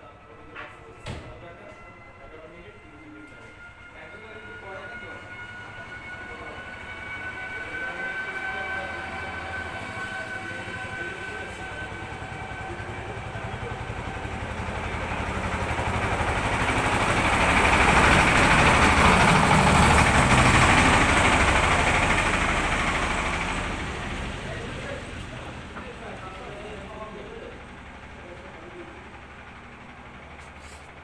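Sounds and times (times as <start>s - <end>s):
train passing: 0.0s - 31.0s
steady high tones: 1.9s - 28.5s.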